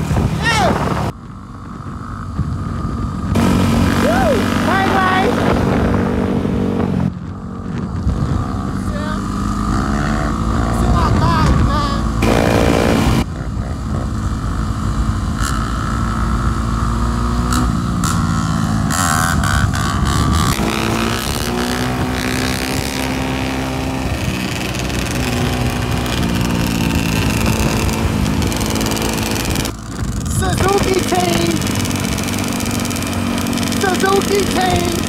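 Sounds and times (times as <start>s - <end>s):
dirt bike and quad engines revving: 0.0s - 35.0s.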